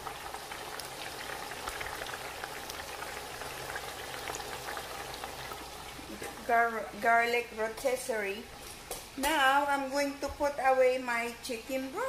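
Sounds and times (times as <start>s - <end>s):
oil sizzling and bubbling: 0.0s - 10.6s.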